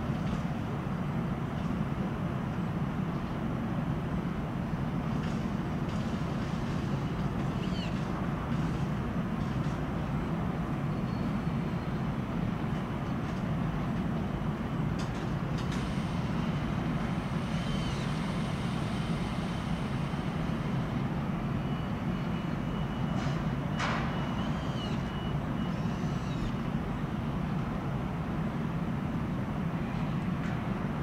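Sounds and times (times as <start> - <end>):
train rumbling at platform: 0.0 - 31.0.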